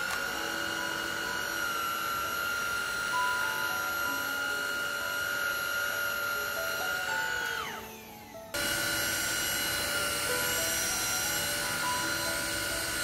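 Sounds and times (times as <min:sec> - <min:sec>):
light background music: 0:00.0 - 0:13.0
stick vacuum motor whine: 0:00.0 - 0:13.0.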